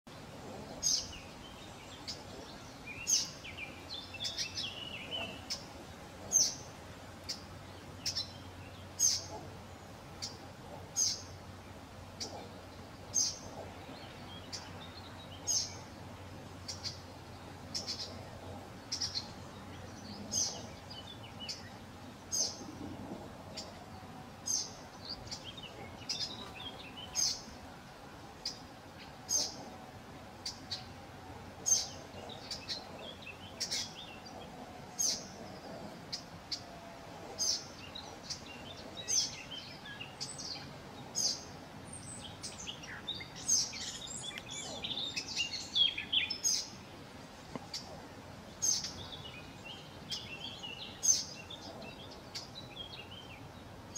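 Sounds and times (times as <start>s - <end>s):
bird calls: 0.3s - 27.8s, 28.4s - 53.9s.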